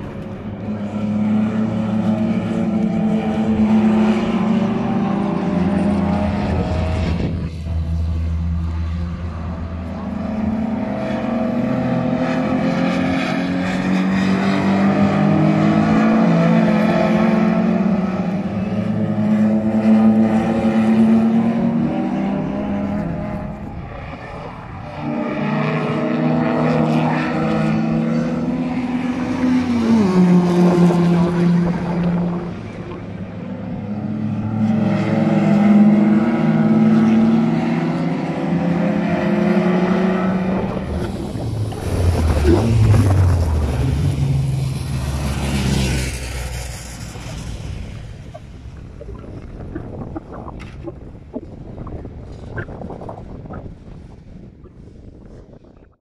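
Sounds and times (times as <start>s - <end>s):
race car engines at high revs: 0.0s - 53.9s.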